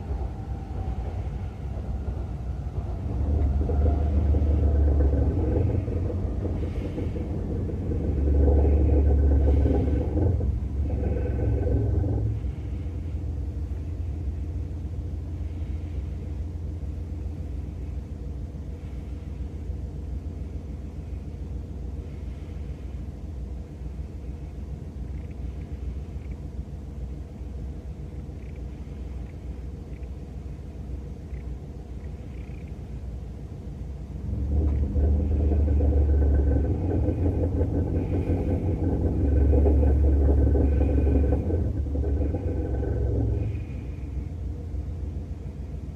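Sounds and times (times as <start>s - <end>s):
car engine rumbling: 0.0s - 45.9s.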